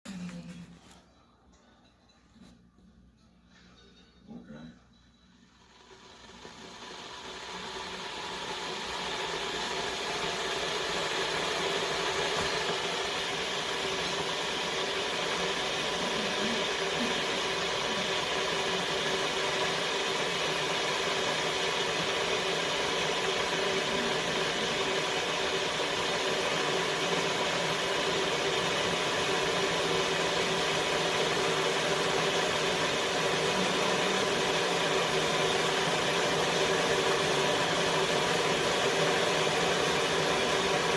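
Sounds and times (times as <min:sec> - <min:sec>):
electric kettle heating water: 0:05.3 - 0:40.9.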